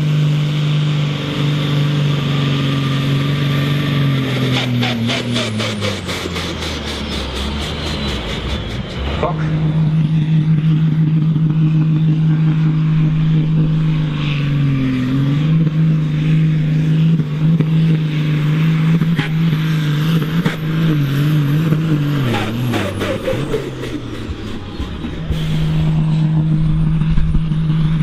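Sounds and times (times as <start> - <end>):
tractor diesel engine running hard: 0.0 - 28.0.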